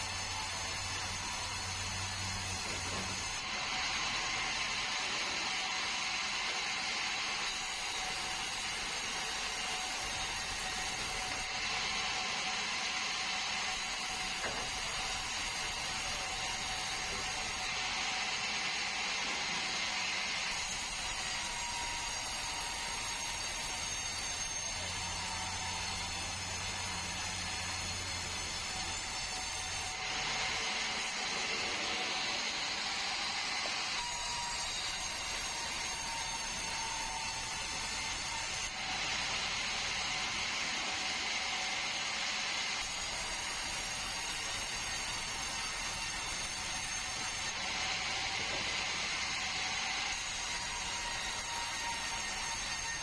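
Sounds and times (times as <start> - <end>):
sawmill saw cutting log: 0.0 - 53.0.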